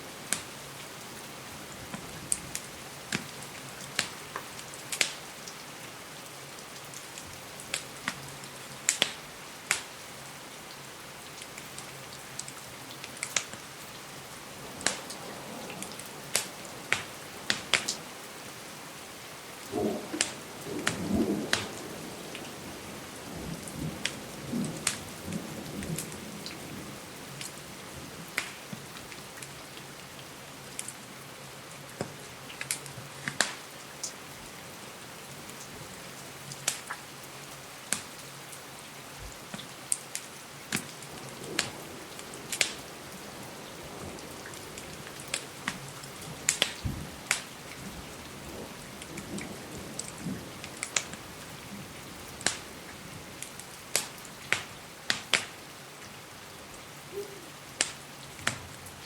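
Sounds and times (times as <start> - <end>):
rain hiss: 0.0 - 59.0
wood fire crackling: 0.2 - 5.9, 6.7 - 9.9, 11.3 - 29.6, 32.0 - 34.2, 36.5 - 37.1, 37.9 - 38.2, 39.2 - 55.6, 57.1 - 59.0.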